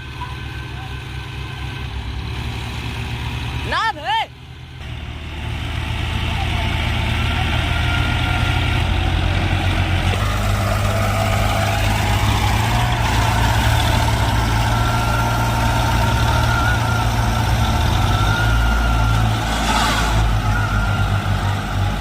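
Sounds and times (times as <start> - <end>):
tractor engines rumbling: 0.0 - 22.0.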